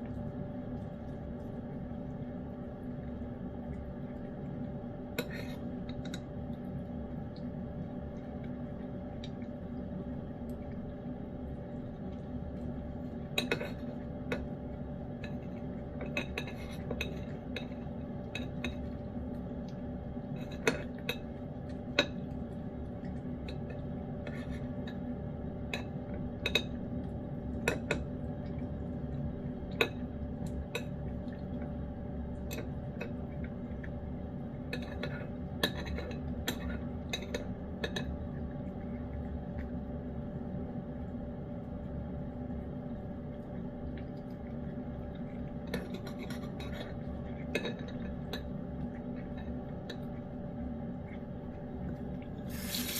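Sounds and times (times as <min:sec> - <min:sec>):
cat eating from a bowl: 0:00.0 - 0:52.9
steady low hum: 0:00.0 - 0:52.9.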